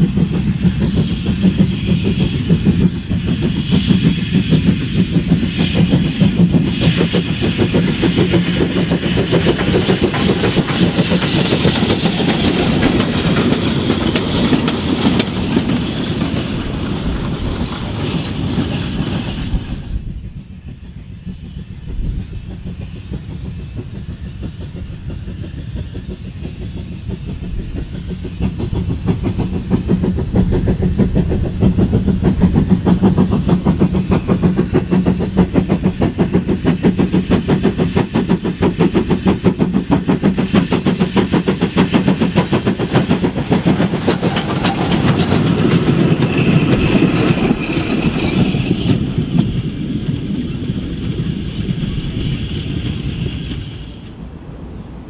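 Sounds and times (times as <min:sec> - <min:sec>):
train running past: 0:00.0 - 0:55.0.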